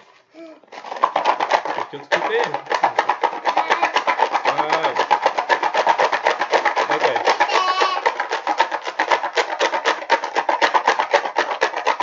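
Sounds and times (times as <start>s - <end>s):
paper tickets rattling in plastic box: 1.0s - 12.0s.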